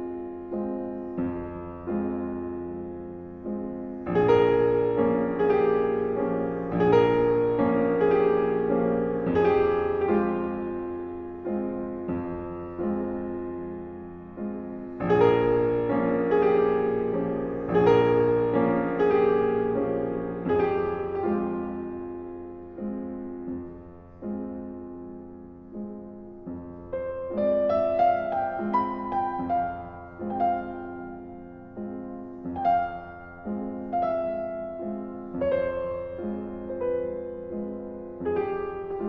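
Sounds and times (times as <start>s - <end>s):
gentle piano chords: 0.0s - 39.0s.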